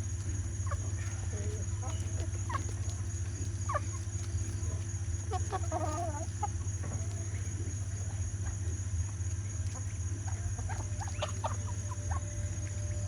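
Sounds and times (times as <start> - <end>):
chickens clucking: 0.0 - 13.0
steady low hum: 0.0 - 13.0.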